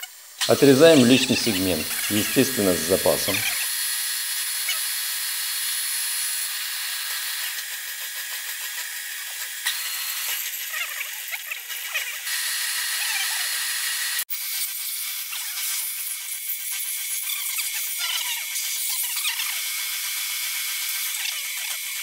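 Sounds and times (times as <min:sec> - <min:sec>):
saw cutting metal whine: 0:00.0 - 0:22.0.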